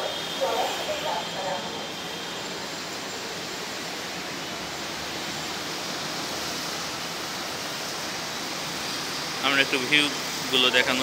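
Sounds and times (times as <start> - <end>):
street traffic rushing: 0.0 - 11.0.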